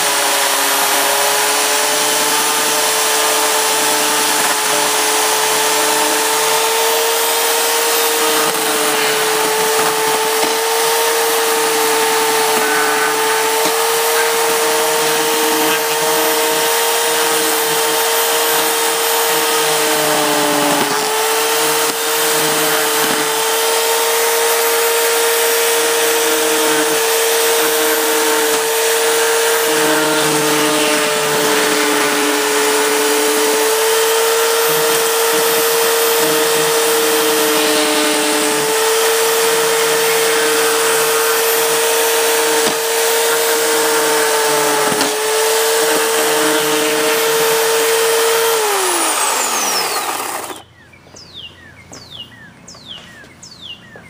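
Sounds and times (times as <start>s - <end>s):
chainsaw running: 0.0s - 50.7s.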